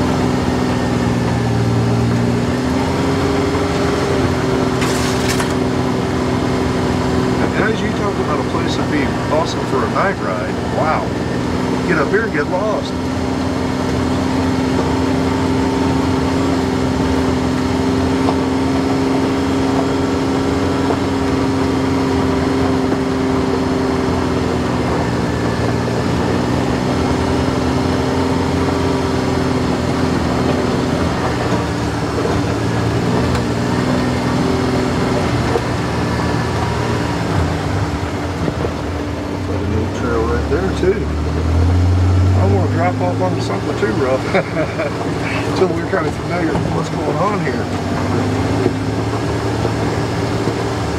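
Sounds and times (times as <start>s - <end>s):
rumble of ride on dirt trail: 0.0s - 50.9s
vehicle engine drone: 0.0s - 50.9s.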